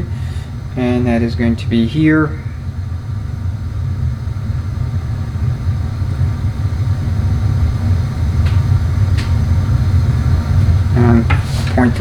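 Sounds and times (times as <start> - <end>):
motor rumbling: 0.0 - 12.0.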